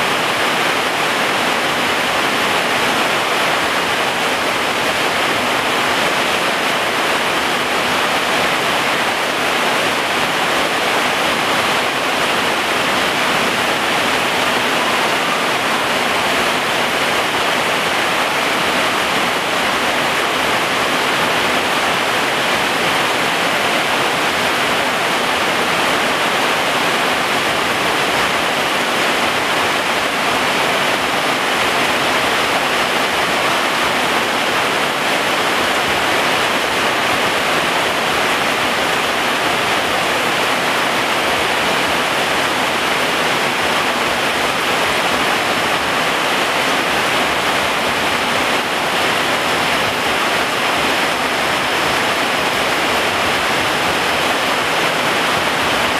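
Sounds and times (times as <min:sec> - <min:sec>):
rain falling on plants: 0:00.0 - 0:55.9.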